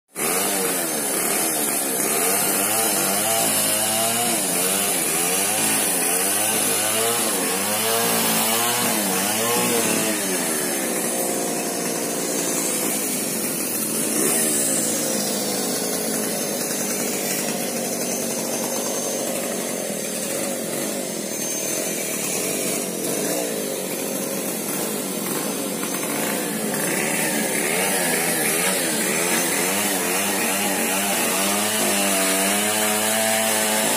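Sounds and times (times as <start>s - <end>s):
chainsaw engine revving: 0.1s - 33.9s.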